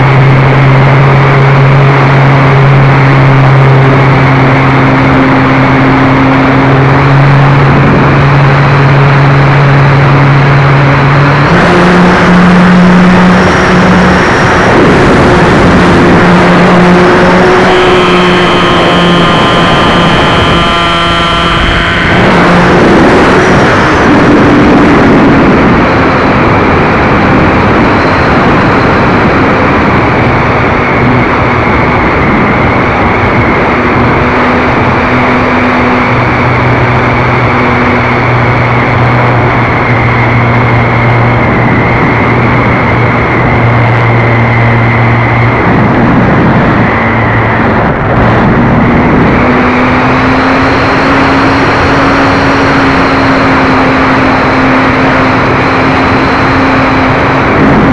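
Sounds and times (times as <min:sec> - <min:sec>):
model plane motor and propeller: 0:00.0 - 0:57.9
wind rush on microphone: 0:00.0 - 0:57.9.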